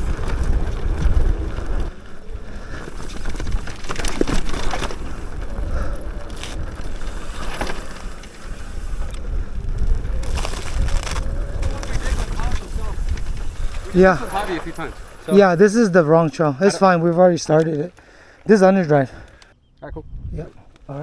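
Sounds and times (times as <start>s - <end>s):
wind rumbling on microphone: 0.0s - 15.8s, 19.2s - 21.0s
bike rattling over bumps: 0.0s - 19.4s
tyres crunching over dirt: 0.0s - 19.4s.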